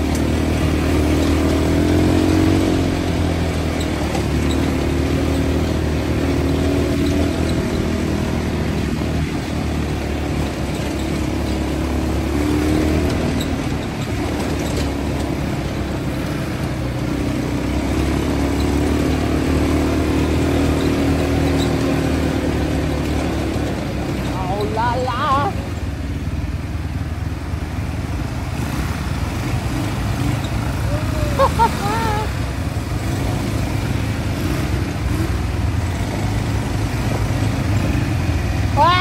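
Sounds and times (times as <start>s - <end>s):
quad bike engines running: 0.0s - 39.0s.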